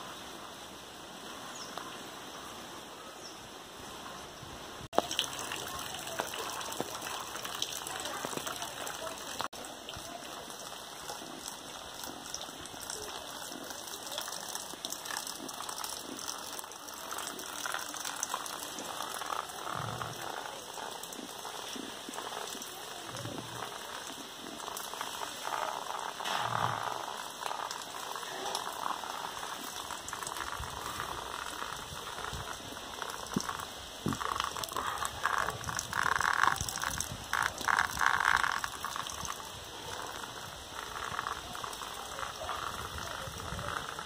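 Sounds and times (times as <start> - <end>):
rain falling on leaves: 4.8 - 44.0.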